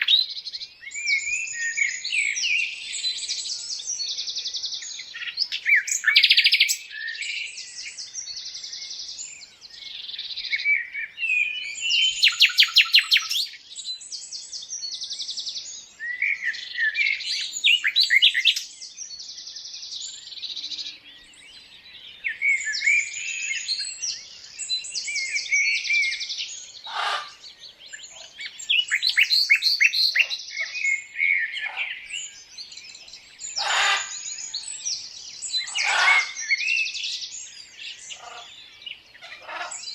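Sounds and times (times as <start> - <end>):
birds chirping and trilling: 0.0 - 39.9
sharp bird calls: 0.0 - 39.9.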